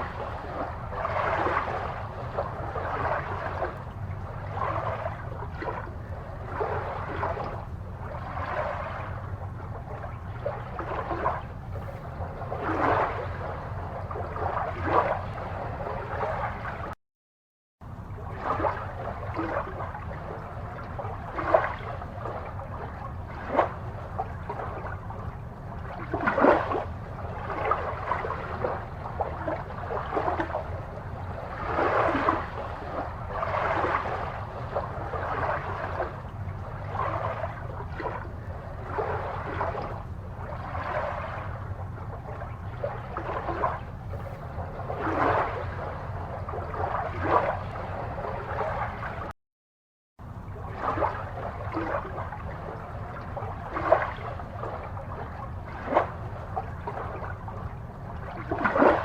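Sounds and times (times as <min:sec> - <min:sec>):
steady low hum: 0:00.0 - 0:17.0, 0:17.8 - 0:49.3, 0:50.2 - 0:59.0
water gurgling and bubbling: 0:00.0 - 0:17.0, 0:17.8 - 0:49.3, 0:50.2 - 0:59.0.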